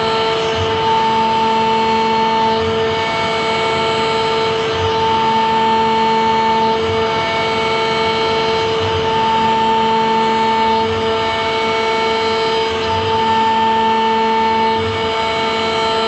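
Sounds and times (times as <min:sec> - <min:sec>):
cnc router spindle whine: 0:00.0 - 0:16.0.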